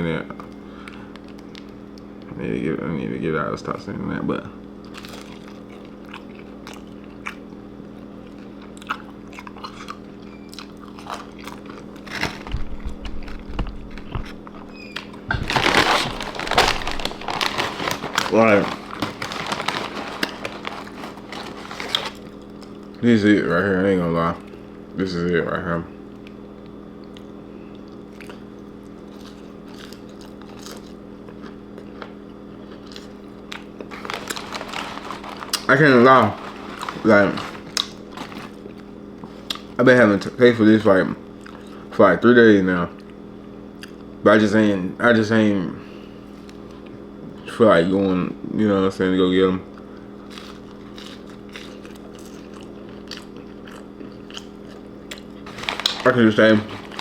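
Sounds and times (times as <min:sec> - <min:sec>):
steady low hum: 0:00.0 - 0:57.0
chewing crunchy fries: 0:00.3 - 0:02.4, 0:04.6 - 0:25.4, 0:26.0 - 0:42.0, 0:42.9 - 0:44.2, 0:49.6 - 0:57.0.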